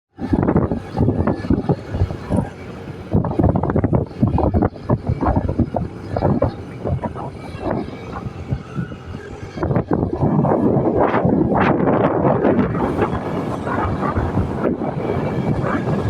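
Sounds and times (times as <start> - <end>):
wind buffeting microphone: 0.1 - 16.0
vehicle engine running: 0.3 - 16.0.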